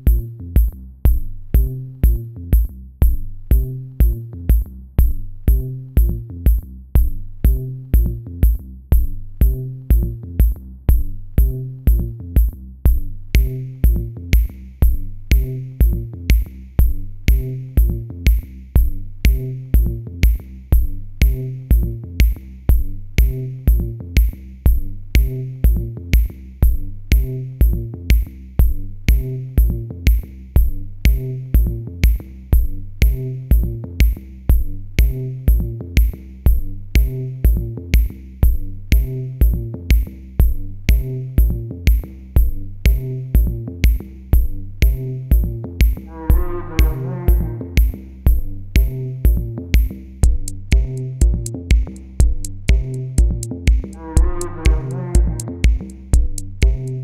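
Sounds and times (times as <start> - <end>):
electronic music with drum-machine beat: 0.0 - 57.0.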